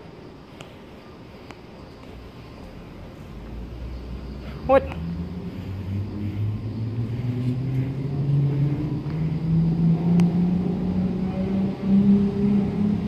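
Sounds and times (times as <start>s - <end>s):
low mechanical hum rising in pitch: 1.0s - 13.0s.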